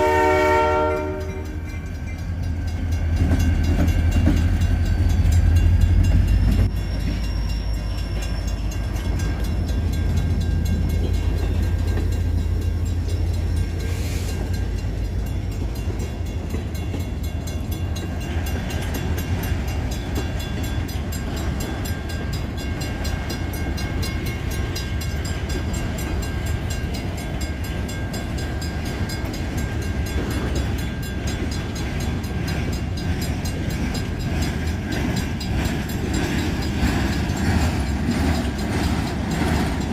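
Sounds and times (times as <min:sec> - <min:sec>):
diesel locomotive rumble: 0:00.0 - 0:39.9
train wheels on track: 0:00.0 - 0:39.9.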